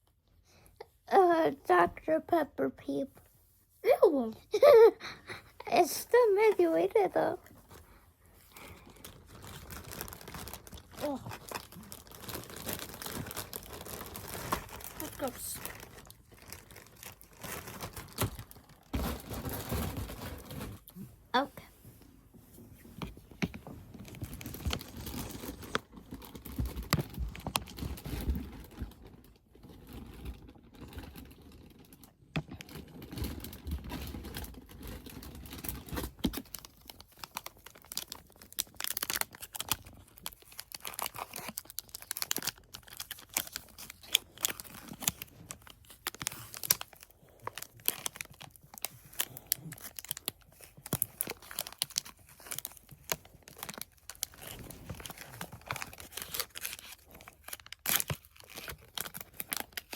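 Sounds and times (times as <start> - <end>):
snack wrappers crinkling: 5.4 - 21.0, 23.9 - 59.9.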